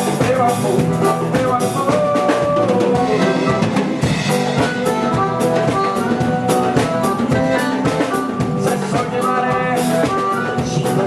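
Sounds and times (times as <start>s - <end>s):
band playing instrumental music: 0.0s - 11.0s
drum kit and percussion: 0.0s - 11.0s.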